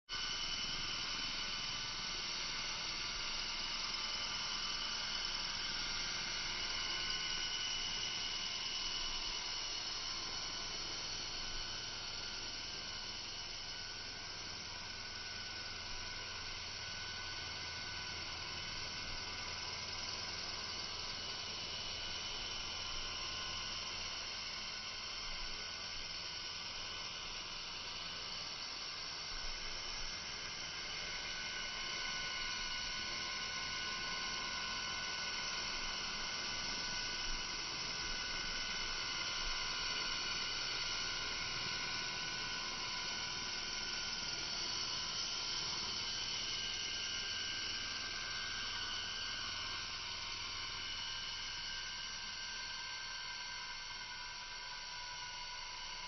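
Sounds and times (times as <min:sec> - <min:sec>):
model helicopter rotor whine: 0:00.1 - 0:56.0.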